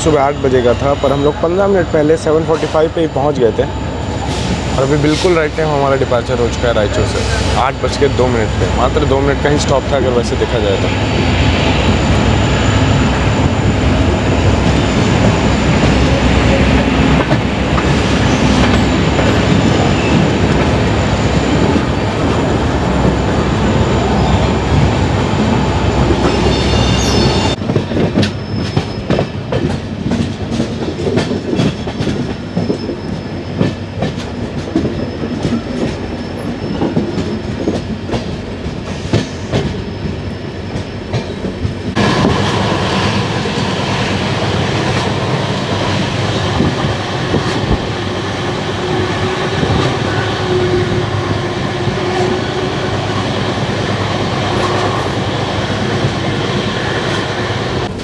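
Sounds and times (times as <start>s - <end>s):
train wheel-and-rail rumble: 0.0s - 58.0s.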